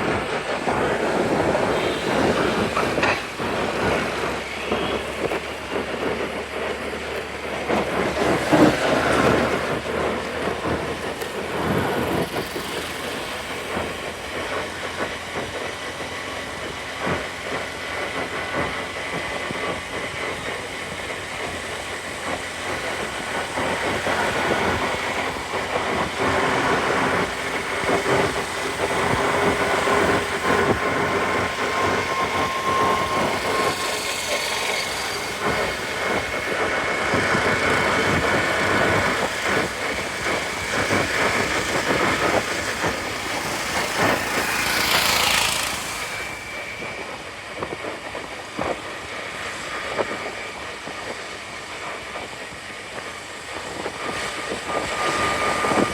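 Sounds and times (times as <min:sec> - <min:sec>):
city traffic noise: 0:00.0 - 0:55.9
scooter engine: 0:00.0 - 0:55.9.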